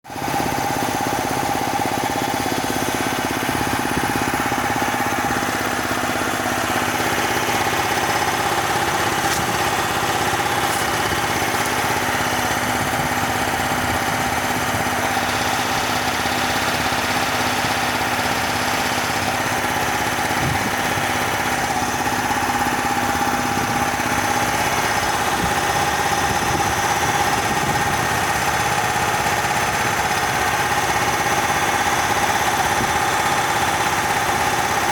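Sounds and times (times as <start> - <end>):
compressor humming with whine: 0.1 - 34.9.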